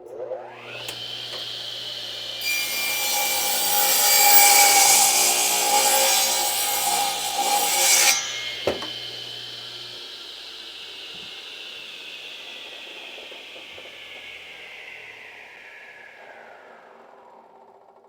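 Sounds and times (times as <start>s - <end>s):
saw motor running: 0.3s - 17.0s
saw blade cutting wood: 0.5s - 16.0s.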